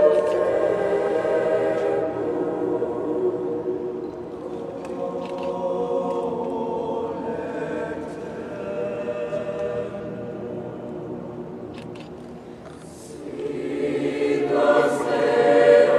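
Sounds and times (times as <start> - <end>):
choir singing held chords: 0.0 - 15.9.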